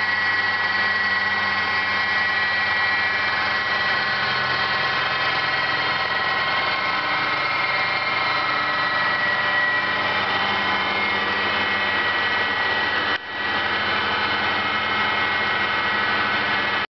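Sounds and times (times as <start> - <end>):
milling machine whine: 0.0 - 16.9.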